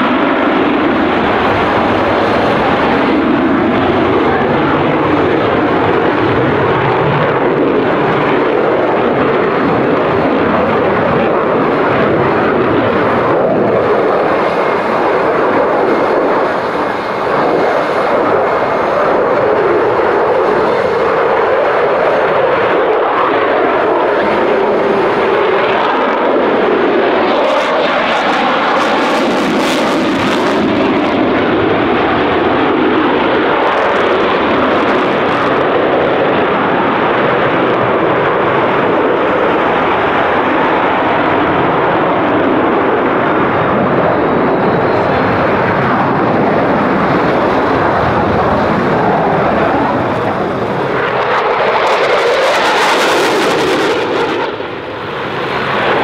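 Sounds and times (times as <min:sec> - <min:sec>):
jet engines roaring overhead: 0:00.0 - 0:56.0.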